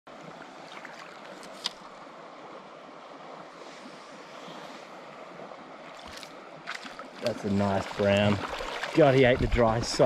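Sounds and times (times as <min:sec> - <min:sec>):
river flowing over stones: 0:00.1 - 0:10.0.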